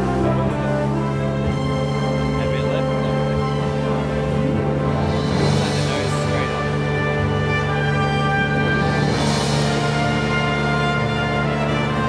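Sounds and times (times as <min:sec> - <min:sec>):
music of sustained tones: 0:00.0 - 0:12.0.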